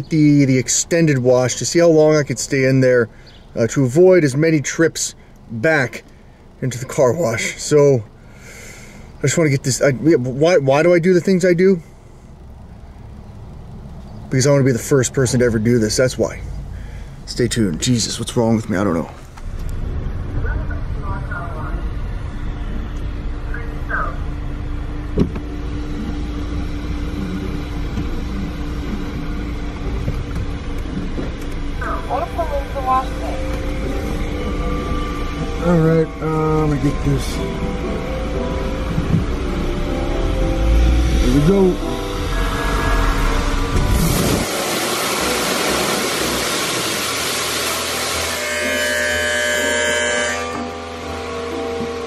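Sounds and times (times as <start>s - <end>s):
car engine rumble inside cabin: 0.0s - 47.8s
steady tones: 8.9s - 52.0s.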